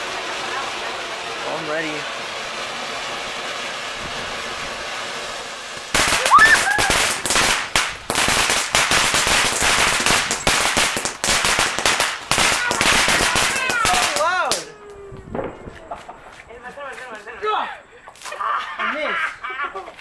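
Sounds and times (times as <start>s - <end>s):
firework crackling and popping: 0.0s - 18.4s
firework fountain hissing: 0.0s - 20.0s.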